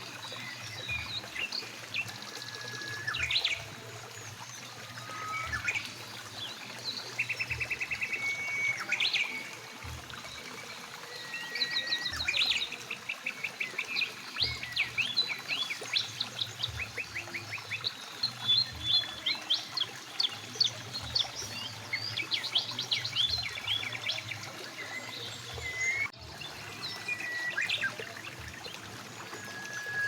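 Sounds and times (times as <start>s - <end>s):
flowing river: 0.0s - 30.0s
songbirds chirping and trilling: 0.0s - 30.0s.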